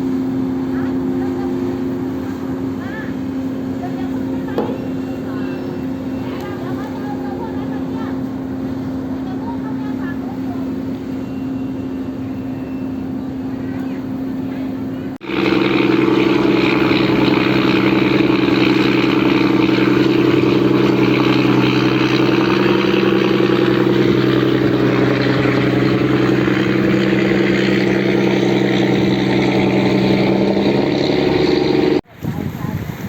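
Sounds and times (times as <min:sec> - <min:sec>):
tugboat engine droning: 0:00.0 - 0:32.1.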